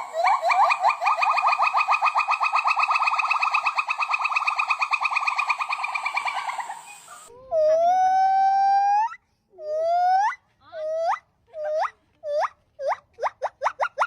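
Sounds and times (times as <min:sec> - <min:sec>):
monkey trilling chatter: 0:00.0 - 0:08.1, 0:10.1 - 0:14.0
monkey whistled call: 0:00.0 - 0:14.0.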